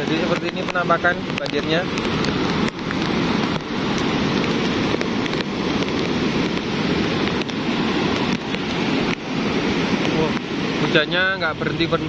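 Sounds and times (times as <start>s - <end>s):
heavy rain: 0.0s - 12.0s
mudflow rushing down a river: 0.0s - 12.0s.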